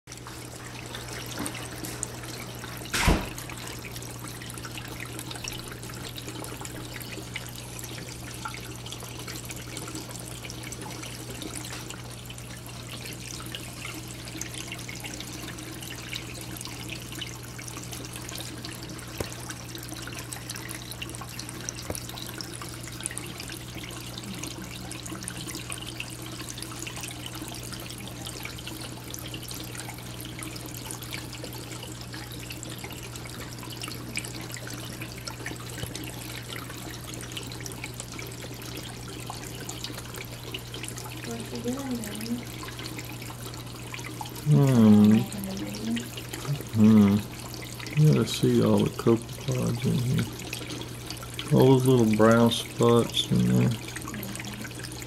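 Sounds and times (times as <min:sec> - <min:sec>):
low pump hum: 0:00.1 - 0:55.0
water trickling and splashing: 0:00.1 - 0:55.0.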